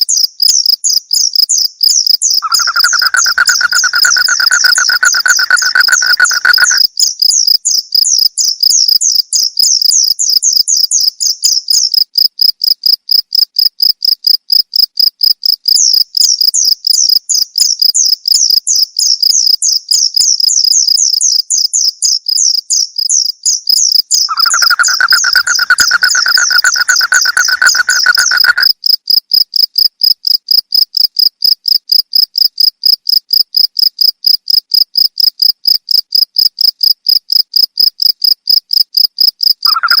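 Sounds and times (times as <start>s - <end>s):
crickets chirping: 0.1s - 21.9s, 22.5s - 40.0s.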